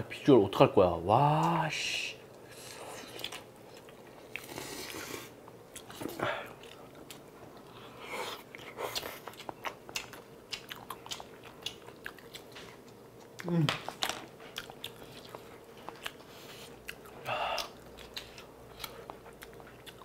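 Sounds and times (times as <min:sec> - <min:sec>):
mouths chewing: 0:02.4 - 0:20.0.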